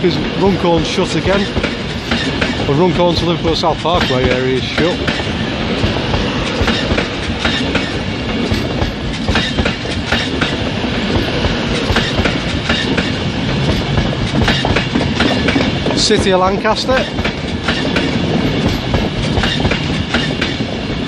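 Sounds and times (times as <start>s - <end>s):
electric train rumbling past: 0.0s - 21.0s
wheels clacking over rail joints: 0.0s - 21.0s.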